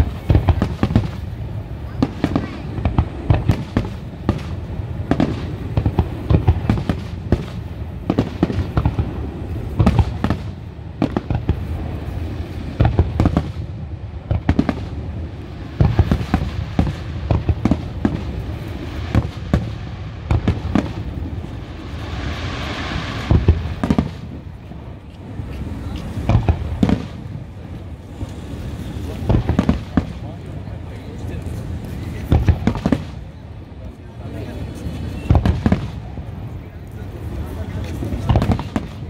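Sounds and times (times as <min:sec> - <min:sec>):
fireworks bursting bangs: 0:00.0 - 0:39.0
fireworks hiss: 0:00.0 - 0:39.0.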